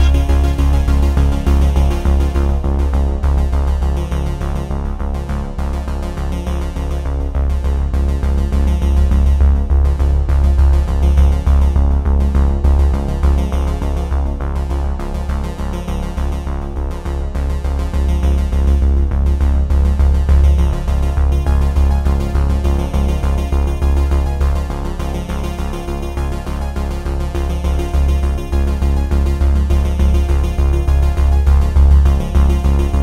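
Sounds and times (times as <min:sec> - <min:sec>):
electronic music with deep bass: 0:00.0 - 0:33.0.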